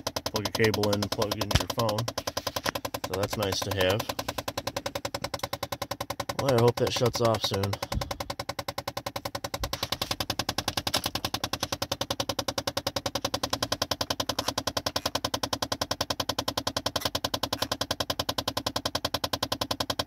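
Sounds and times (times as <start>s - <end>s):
rapid clicking inside dashboard: 0.0s - 20.0s.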